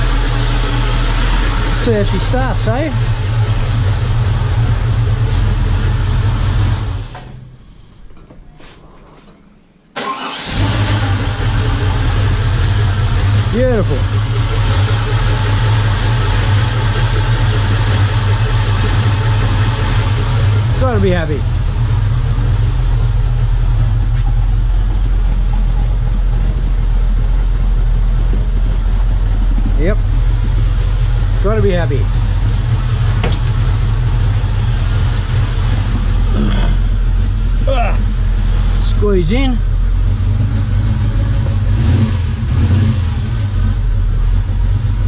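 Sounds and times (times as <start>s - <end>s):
car engine starting: 0.0s - 8.2s, 9.9s - 45.0s
car engine idling: 0.0s - 8.6s, 10.0s - 45.0s.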